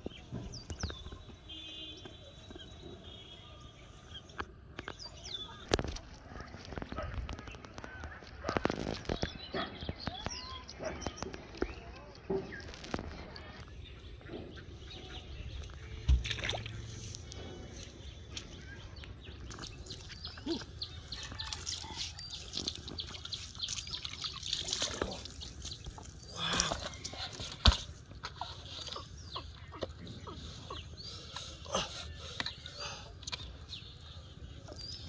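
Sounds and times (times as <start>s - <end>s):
water splashing and sloshing: 4.3s - 35.0s.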